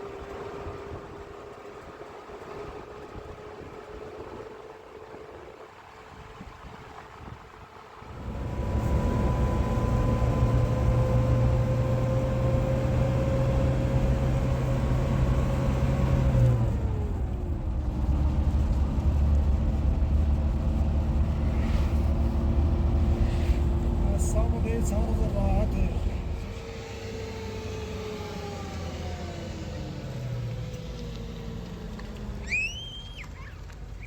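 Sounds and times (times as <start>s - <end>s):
car engine running while driving: 0.0s - 34.0s.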